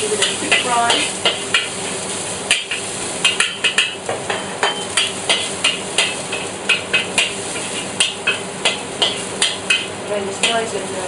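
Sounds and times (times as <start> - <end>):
metal spatula scraping a wok: 0.0 - 10.7
oil sizzling: 0.0 - 11.0.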